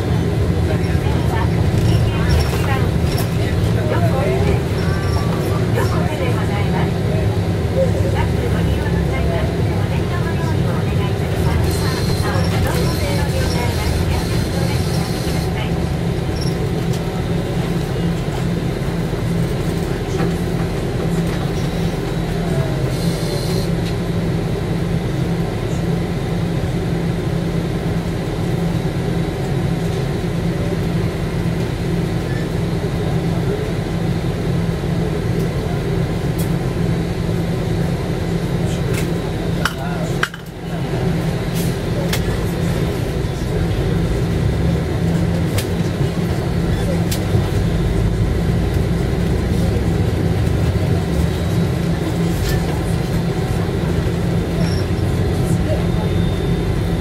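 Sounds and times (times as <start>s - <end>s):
bus engine drone: 0.0s - 57.0s.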